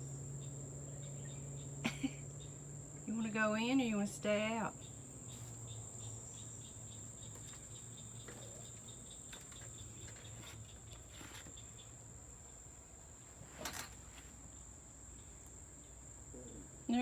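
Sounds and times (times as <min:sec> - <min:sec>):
insect chirping: 0:00.0 - 0:17.0
insects trilling: 0:00.0 - 0:17.0.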